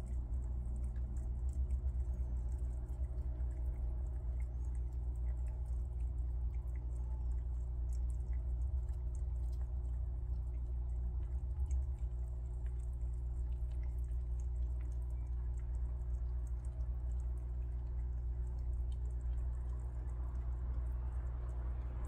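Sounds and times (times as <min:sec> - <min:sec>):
prairie dogs chewing peanuts: 0:00.0 - 0:22.0
steady low hum: 0:00.0 - 0:22.0.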